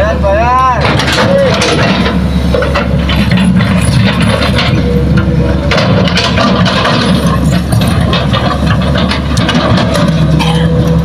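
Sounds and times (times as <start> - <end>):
diesel engines humming: 0.0 - 11.0.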